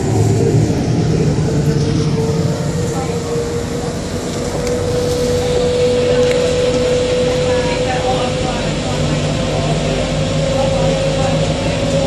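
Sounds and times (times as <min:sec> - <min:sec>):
train motor whine: 0:00.0 - 0:12.0.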